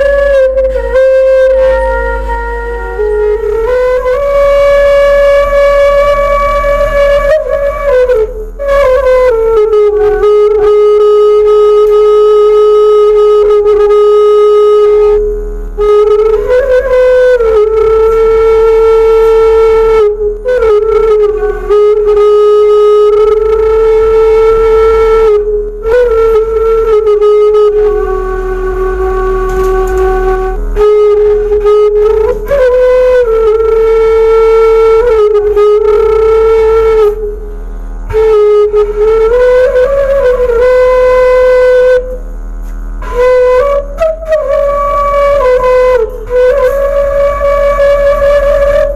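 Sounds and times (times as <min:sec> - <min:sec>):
bamboo flute notes: 0:00.0 - 0:48.9
steady low hum: 0:00.0 - 0:48.9.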